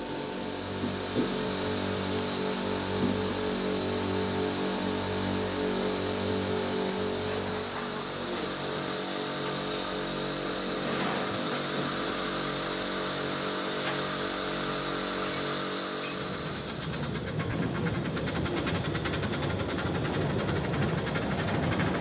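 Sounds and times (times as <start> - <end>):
steam hissing from safety valves: 0.0 - 22.0.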